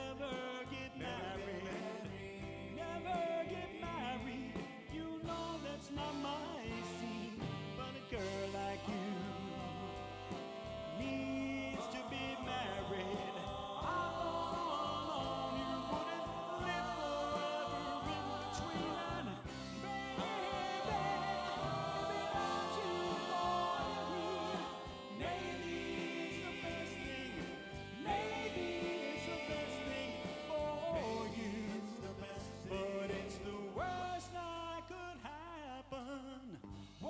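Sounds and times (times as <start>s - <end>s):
live band accompaniment: 0.0s - 34.0s
group vocal harmony singing: 0.0s - 34.4s.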